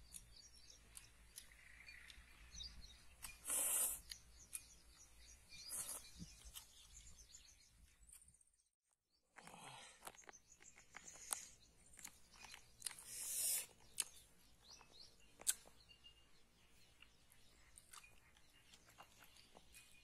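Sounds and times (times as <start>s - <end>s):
honeycomb being handled and chewed: 0.0s - 8.4s, 9.3s - 20.0s
birds chirping faintly: 0.0s - 20.0s.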